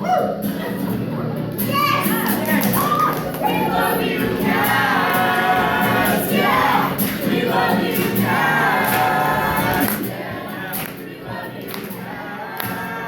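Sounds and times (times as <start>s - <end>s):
group of voices singing: 1.9s - 13.0s.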